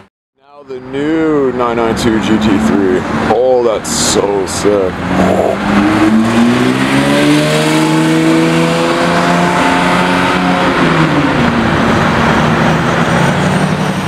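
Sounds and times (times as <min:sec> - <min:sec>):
sports car accelerating: 0:01.1 - 0:14.0.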